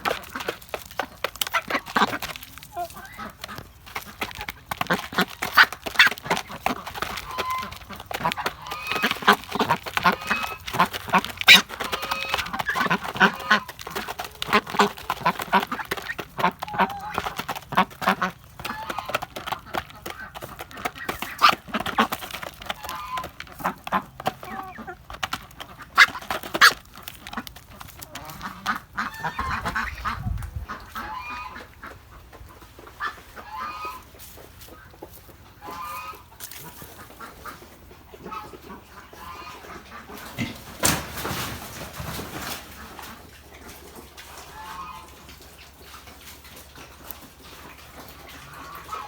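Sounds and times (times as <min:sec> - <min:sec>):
ducks quacking: 0:00.0 - 0:49.0.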